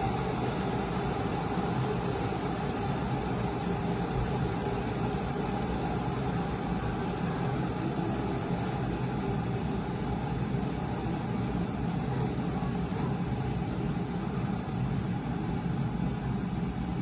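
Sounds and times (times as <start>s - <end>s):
electric kettle heating water: 0.0s - 17.0s.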